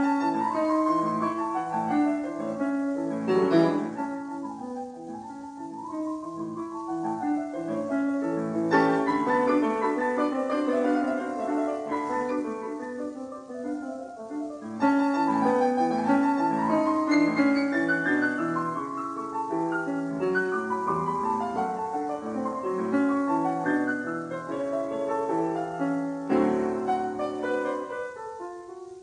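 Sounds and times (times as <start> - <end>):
classical piano music: 0.0 - 29.0.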